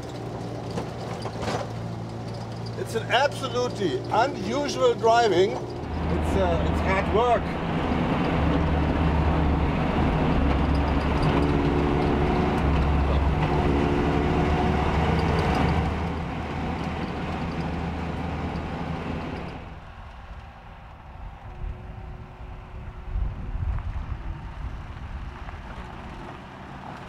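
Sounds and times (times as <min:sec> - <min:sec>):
car engine droning in cab: 0:00.0 - 0:27.0.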